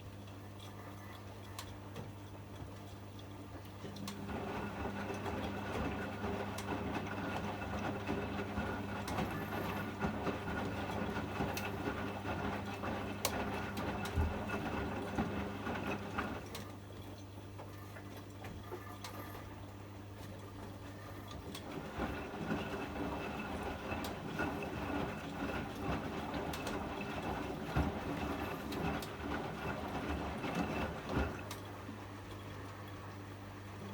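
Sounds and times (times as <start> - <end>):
washing machine hum: 0.0 - 33.9.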